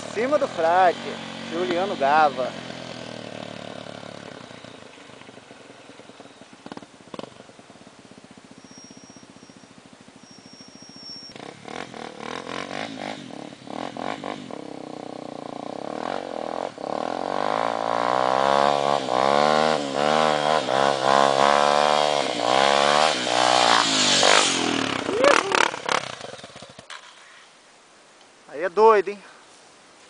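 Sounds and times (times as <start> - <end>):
motorbike engine revving: 0.0 - 27.2.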